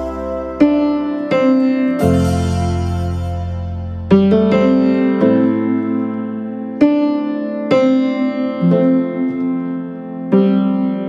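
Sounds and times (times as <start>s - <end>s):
slow keyboard melody: 0.0s - 11.0s.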